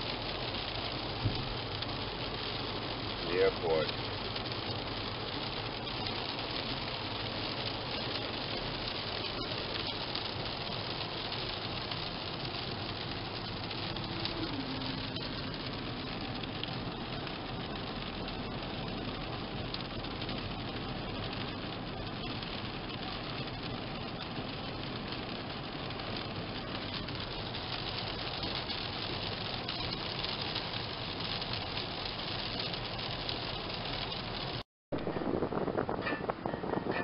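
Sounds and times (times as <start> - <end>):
car road noise and engine hum: 0.0 - 37.0.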